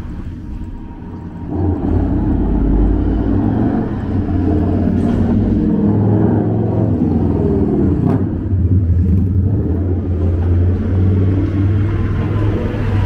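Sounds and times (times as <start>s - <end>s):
heavy truck engine: 0.0s - 13.0s
street traffic rumble: 0.0s - 13.0s.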